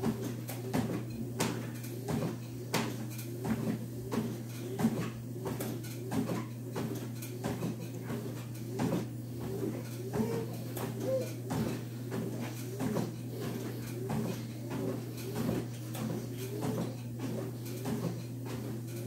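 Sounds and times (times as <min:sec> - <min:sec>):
footfalls thudding on treadmill: 0:00.0 - 0:19.0
treadmill humming: 0:00.0 - 0:19.0.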